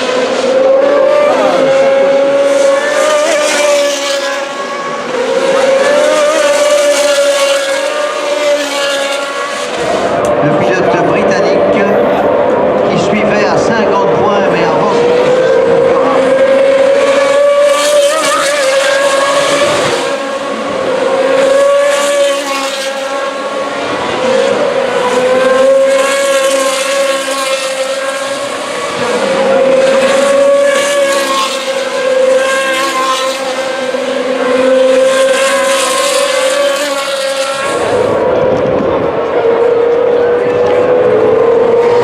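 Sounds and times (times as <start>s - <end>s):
race car engines at high revs: 0.0s - 42.0s.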